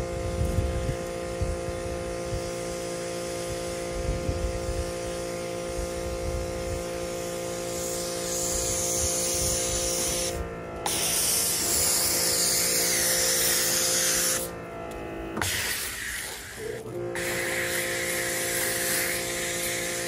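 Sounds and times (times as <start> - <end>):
pressure washer spraying: 0.8 - 14.6, 15.3 - 20.0.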